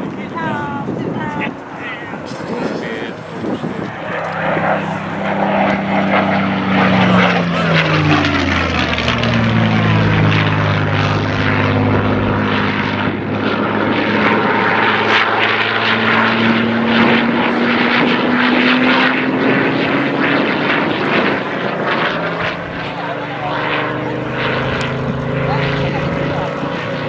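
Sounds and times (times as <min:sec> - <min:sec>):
aircraft engine flying past: 0:00.0 - 0:27.0.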